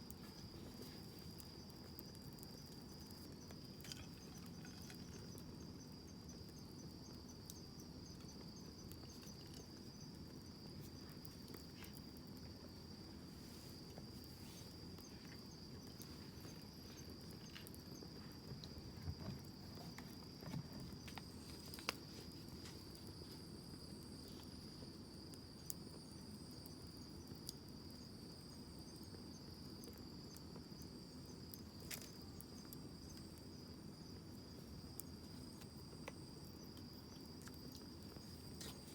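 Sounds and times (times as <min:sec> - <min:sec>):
campfire crackling and popping: 0:00.0 - 0:13.2, 0:13.8 - 0:38.9
crickets chirping: 0:00.0 - 0:38.9.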